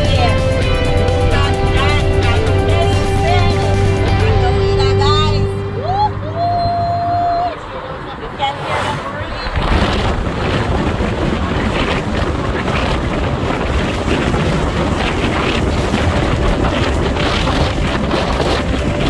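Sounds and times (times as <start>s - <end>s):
tyre road noise: 0.0s - 19.0s
wind buffeting microphone: 0.0s - 19.0s.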